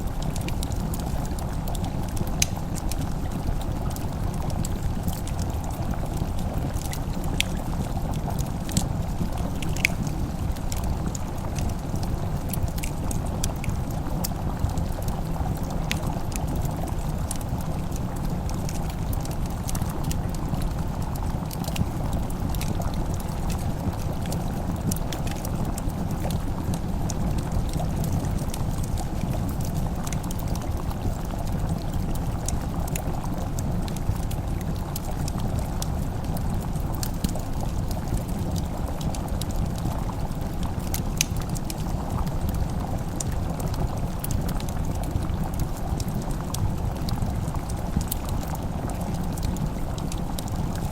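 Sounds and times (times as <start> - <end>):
food simmering: 0.0 - 50.9
wood fire crackling: 0.0 - 50.9.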